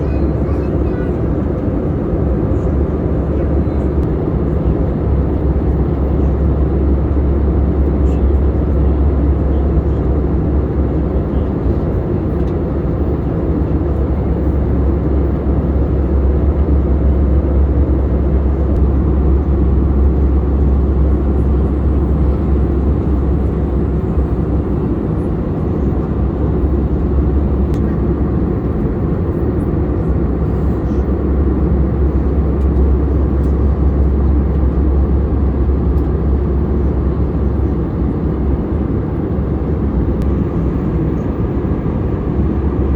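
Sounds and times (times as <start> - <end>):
airplane cabin hum: 0.0 - 42.9.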